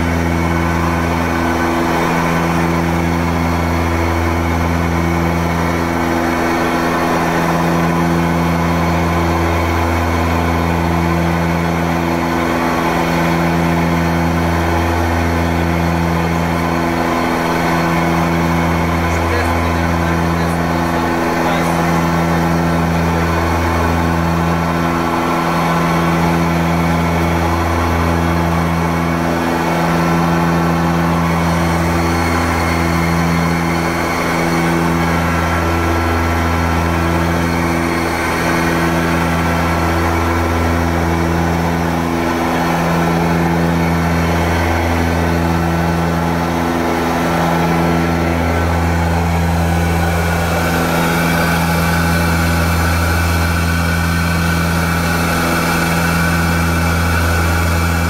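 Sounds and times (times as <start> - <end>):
propeller engines droning: 0.0 - 58.0.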